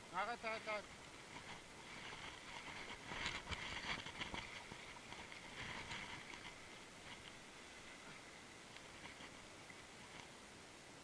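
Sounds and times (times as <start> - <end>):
river water splashing around raft: 0.2 - 10.5.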